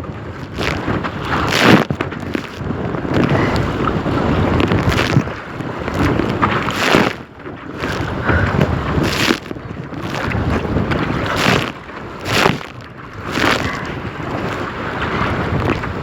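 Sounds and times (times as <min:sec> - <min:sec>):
choppy water slapping kayak: 0:00.0 - 0:16.0
wind buffeting microphone: 0:00.0 - 0:16.0
paddle splashing into water: 0:00.2 - 0:16.0.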